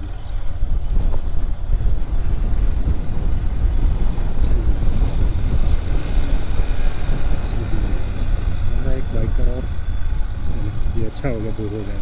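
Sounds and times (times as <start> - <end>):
motorcycle engine running: 0.0 - 12.0
road noise: 0.0 - 12.0
wind rumble on microphone: 0.0 - 12.0.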